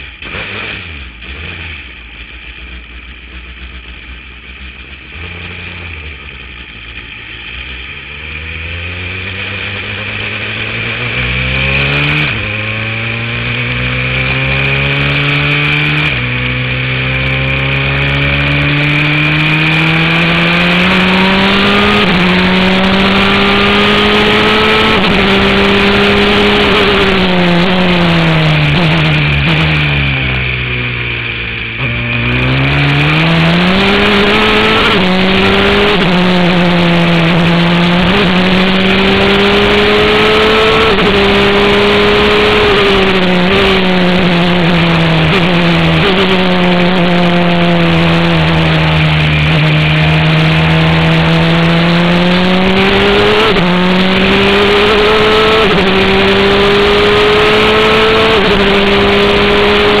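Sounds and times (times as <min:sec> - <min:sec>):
race car engine accelerating: 0:05.0 - 1:00.0.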